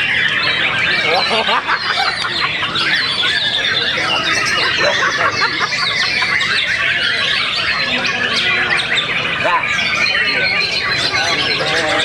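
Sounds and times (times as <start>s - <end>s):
songbirds singing in chorus: 0.0s - 12.0s.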